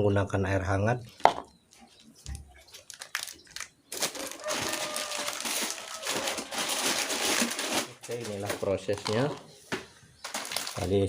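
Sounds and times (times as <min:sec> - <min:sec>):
plastic packet crinkling: 0:01.1 - 0:09.5, 0:10.2 - 0:11.0.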